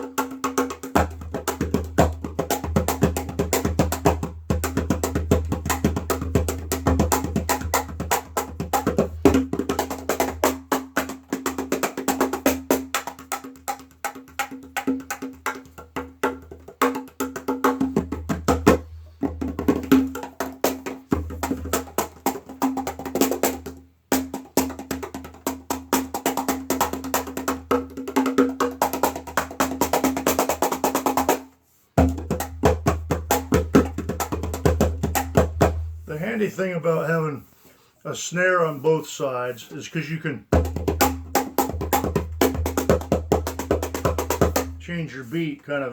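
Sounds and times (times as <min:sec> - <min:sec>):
cajon played by hand: 0:00.0 - 0:35.9, 0:40.5 - 0:44.8.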